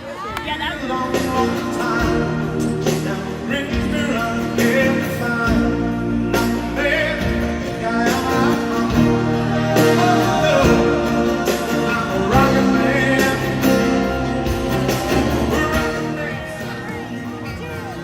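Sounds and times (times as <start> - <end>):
guitar chords: 0.5 - 18.0
person singing: 0.5 - 18.0.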